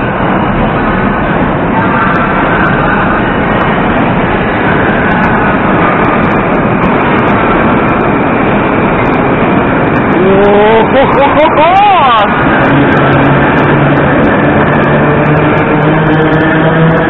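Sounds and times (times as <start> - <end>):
faint train whine: 0.0 - 17.0
train wheels and motors rumbling: 0.0 - 17.0.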